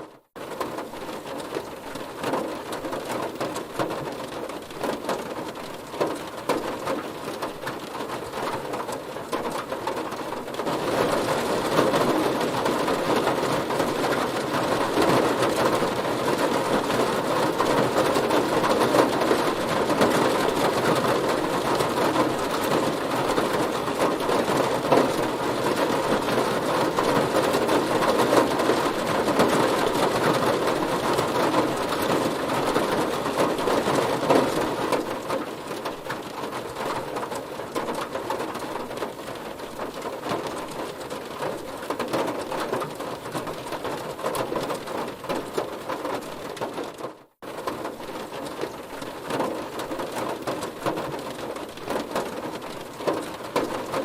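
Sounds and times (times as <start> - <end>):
rain drumming on a car: 0.0 - 54.0.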